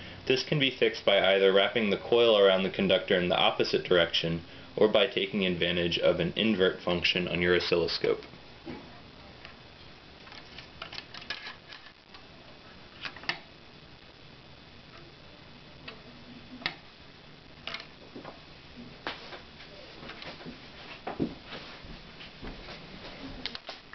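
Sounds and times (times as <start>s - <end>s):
faint steady hiss: 0.0s - 23.9s.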